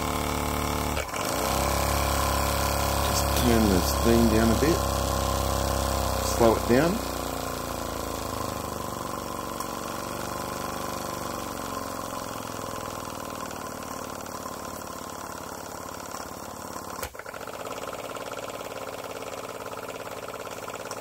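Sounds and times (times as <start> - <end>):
model steam engine chuffing: 1.1 - 9.5, 11.0 - 21.0.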